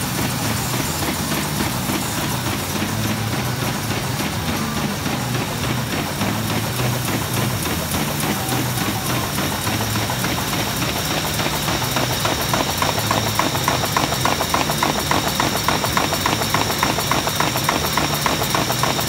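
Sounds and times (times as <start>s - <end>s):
paper folding machine clattering: 0.0s - 19.0s.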